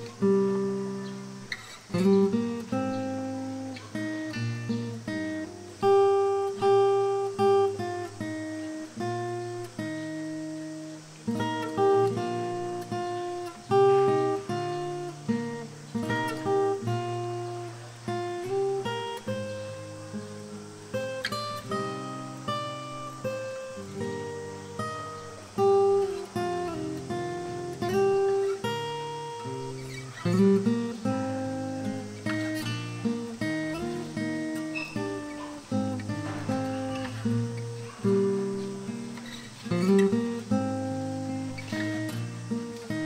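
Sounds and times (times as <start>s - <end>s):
acoustic guitar melody: 0.0s - 43.0s.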